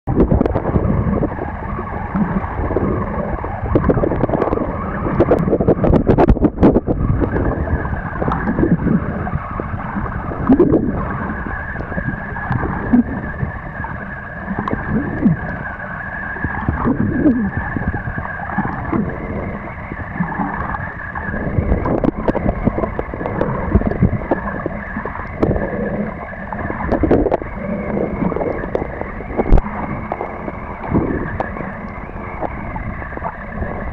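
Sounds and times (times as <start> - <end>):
muffled underwater water rumble: 0.0 - 33.9
water gurgling: 0.1 - 33.9.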